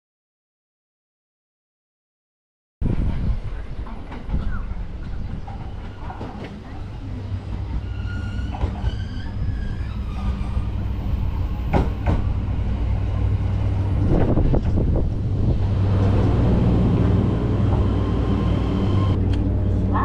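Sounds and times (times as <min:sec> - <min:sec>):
train running gear humming: 0:02.8 - 0:20.0.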